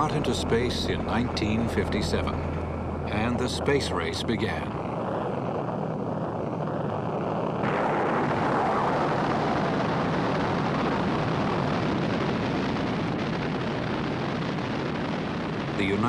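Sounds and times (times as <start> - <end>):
rocket engine rumble: 0.0 - 16.0.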